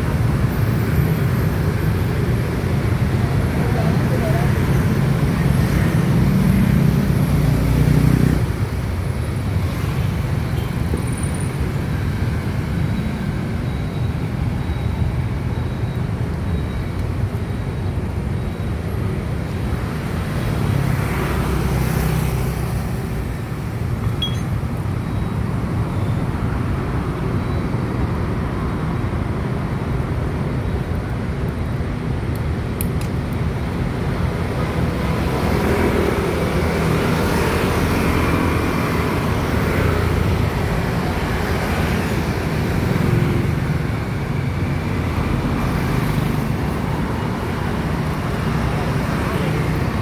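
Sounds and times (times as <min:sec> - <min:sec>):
road traffic rumble: 0:00.0 - 0:50.0.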